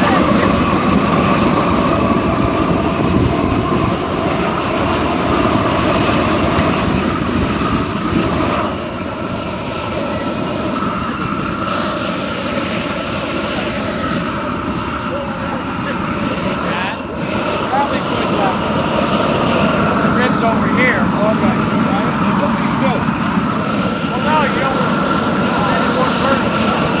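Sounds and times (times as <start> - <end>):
torch flame rushing: 0.0 - 27.0.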